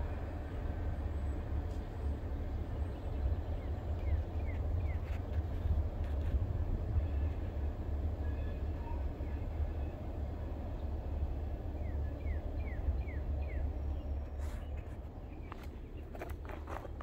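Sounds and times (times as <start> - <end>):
freight train rumbling: 0.0 - 17.0.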